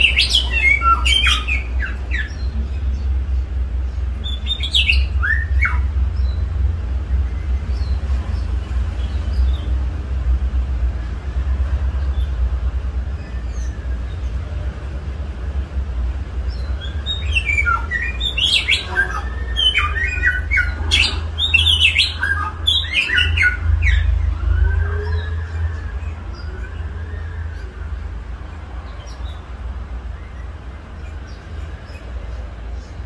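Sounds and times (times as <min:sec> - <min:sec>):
songbird singing: 0:00.0 - 0:33.0
steady low hum: 0:00.0 - 0:33.0.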